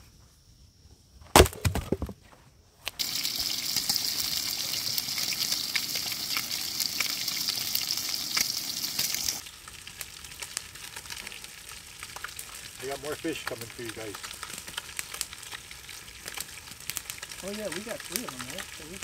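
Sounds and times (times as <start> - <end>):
fish sizzling in hot oil: 3.0 - 19.0.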